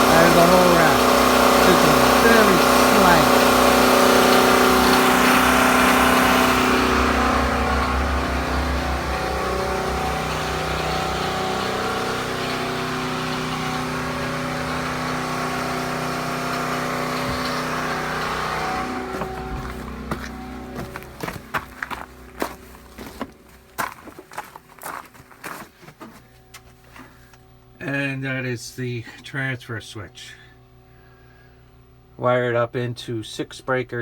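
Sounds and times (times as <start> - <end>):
generator engine running: 0.0 - 29.0.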